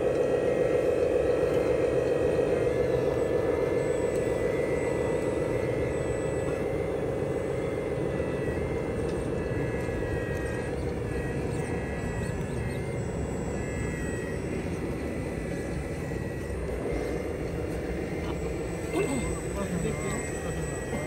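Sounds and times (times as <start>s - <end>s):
electric motor whine: 0.0s - 21.0s
low hum: 0.0s - 21.0s.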